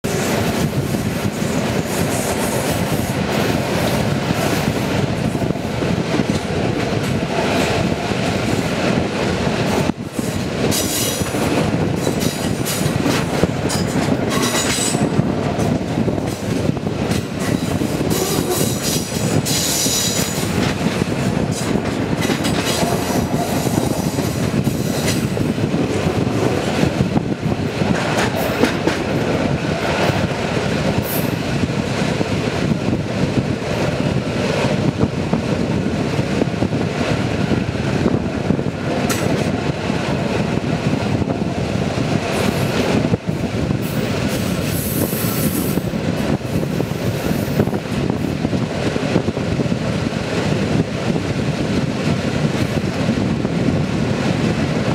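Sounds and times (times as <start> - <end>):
high-pitched train noise: 0.0 - 54.9
rail clatter: 0.0 - 54.9
train wheels rumbling on track: 0.0 - 54.9.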